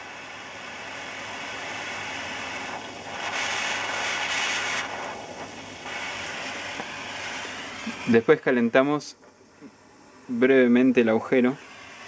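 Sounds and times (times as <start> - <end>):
gas torch hissing flame: 0.0 - 12.0.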